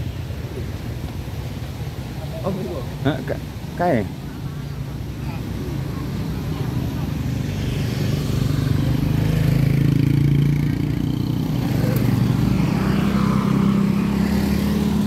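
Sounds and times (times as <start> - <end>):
scooter engines passing: 0.0 - 15.0.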